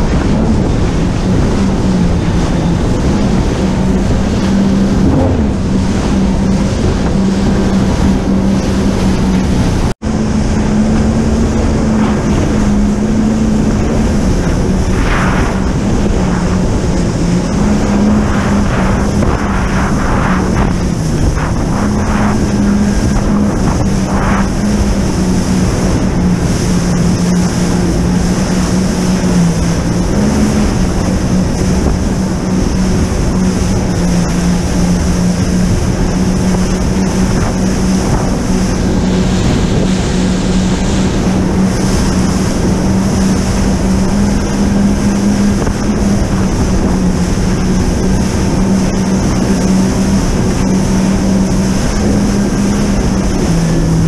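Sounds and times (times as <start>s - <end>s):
jet ski engine running: 0.0s - 54.0s
water noise: 0.0s - 54.0s
wind noise: 0.0s - 54.0s.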